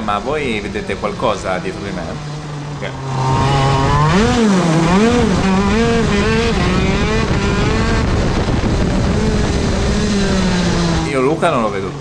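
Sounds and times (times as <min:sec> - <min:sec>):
two-stroke kart engine revving: 0:00.0 - 0:12.0.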